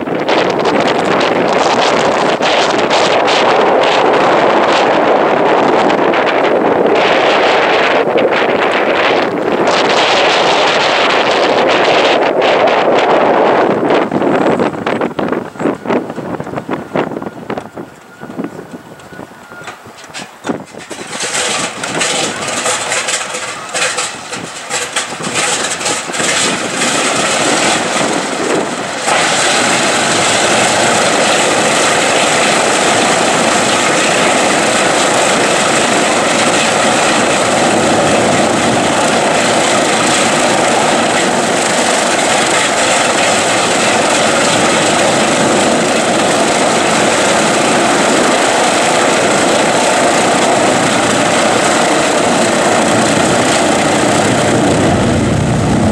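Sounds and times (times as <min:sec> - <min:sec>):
radial aircraft engine starting: 0:00.0 - 0:55.9.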